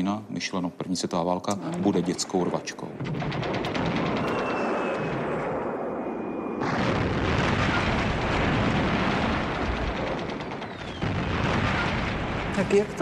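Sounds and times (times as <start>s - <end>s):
exploding shells rumbling: 1.7s - 13.0s.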